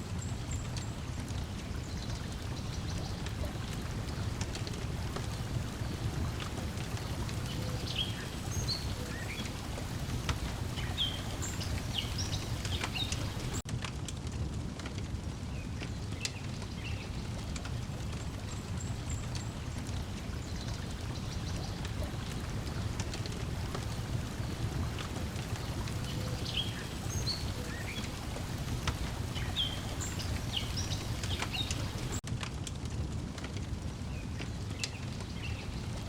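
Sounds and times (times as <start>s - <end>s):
water lapping at shore: 0.0s - 13.6s, 15.8s - 32.2s
wood fire crackling: 0.0s - 36.0s.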